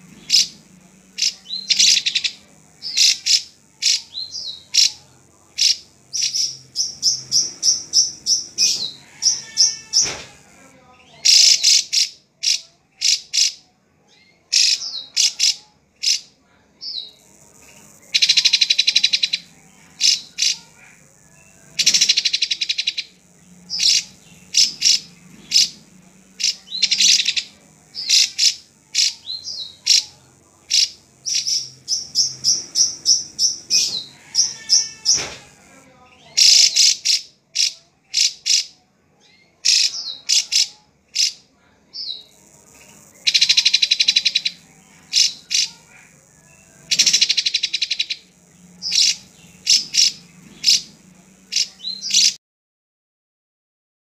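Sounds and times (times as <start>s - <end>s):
harsh buzzy bird phrases: 0.0s - 52.4s.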